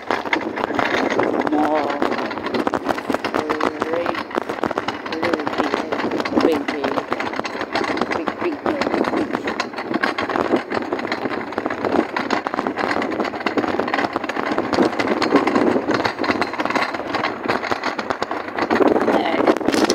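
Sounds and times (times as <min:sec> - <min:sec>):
shopping trolley rattling on paving: 0:00.0 - 0:19.9.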